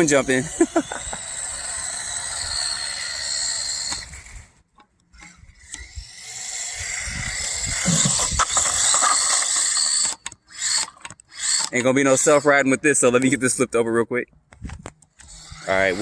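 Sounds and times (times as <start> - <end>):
toy truck motor whining: 0.0 - 12.6, 15.1 - 16.0.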